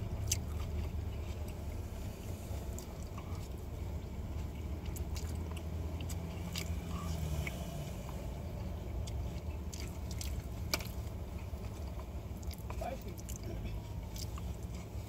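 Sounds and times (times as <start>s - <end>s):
steady low hum: 0.0s - 15.0s
person chewing: 0.1s - 15.0s.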